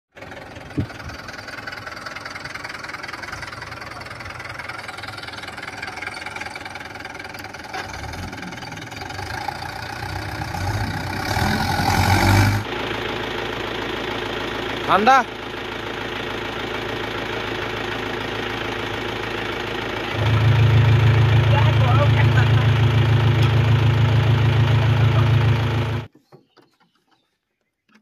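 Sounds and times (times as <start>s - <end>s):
tractor diesel engine running: 0.1s - 26.1s.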